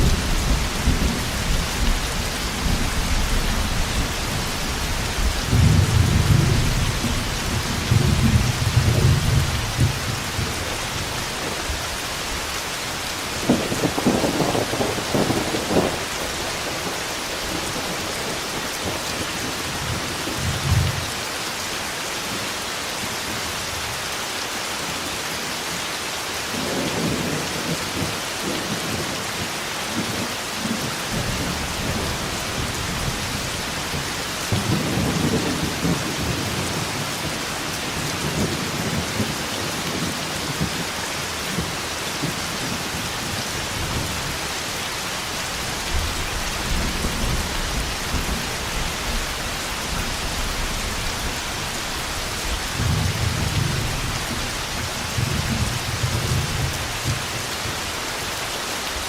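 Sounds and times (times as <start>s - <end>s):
thunder rumbling and crackling: 0.0s - 12.5s, 13.2s - 21.1s, 26.6s - 44.6s, 45.6s - 57.8s
heavy rainfall: 0.0s - 59.0s.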